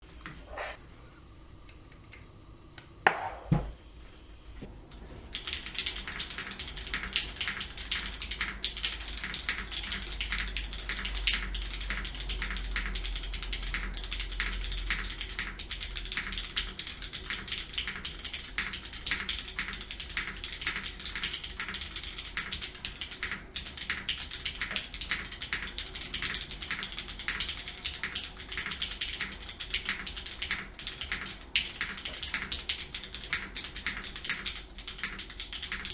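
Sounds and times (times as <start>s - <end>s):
fast mechanical keyboard typing: 5.3s - 35.9s.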